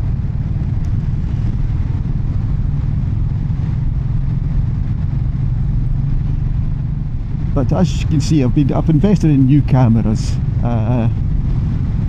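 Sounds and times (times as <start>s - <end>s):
motorcycle engine running: 0.0s - 12.0s
wind rush: 0.0s - 12.0s.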